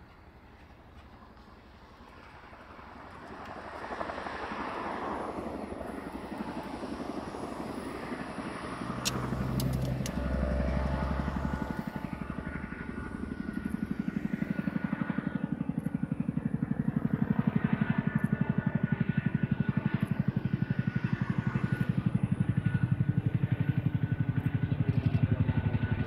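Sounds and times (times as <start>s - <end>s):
helicopter engine noise: 0.0s - 26.0s
helicopter rotor blade chop: 1.5s - 26.0s.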